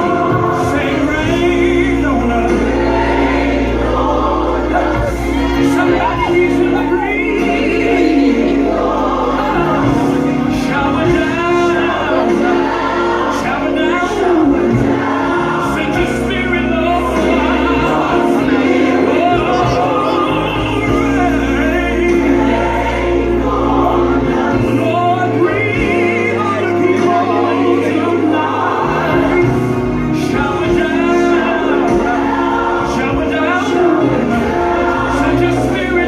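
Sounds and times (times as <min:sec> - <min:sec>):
gospel voices singing over chords: 0:00.0 - 0:36.0.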